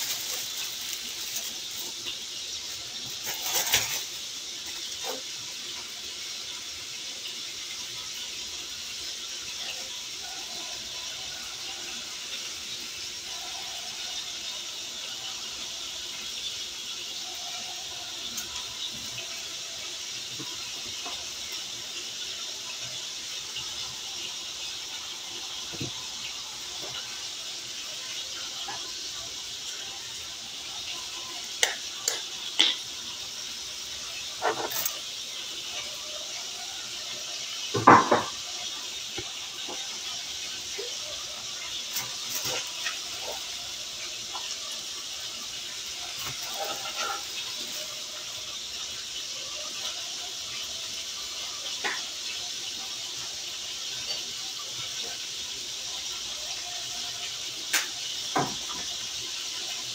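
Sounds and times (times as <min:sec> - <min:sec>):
food sizzling in a skillet: 0:00.0 - 0:59.9.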